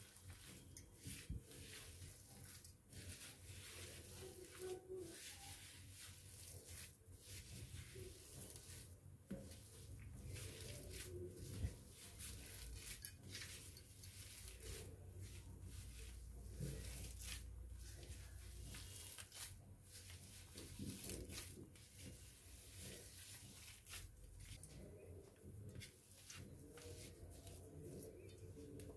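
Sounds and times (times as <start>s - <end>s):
hand kneading mixture squishing: 0.0s - 28.9s.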